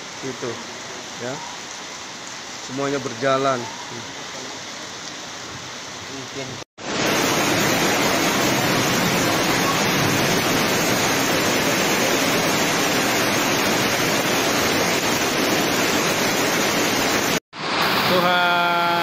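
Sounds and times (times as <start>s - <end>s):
heavy rain on a flooded street: 0.0s - 19.0s.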